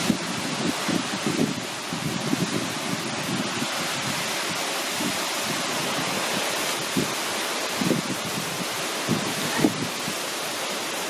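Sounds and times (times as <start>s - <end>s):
waterfall roaring: 0.0s - 11.0s
wind gusts on microphone: 0.0s - 11.0s.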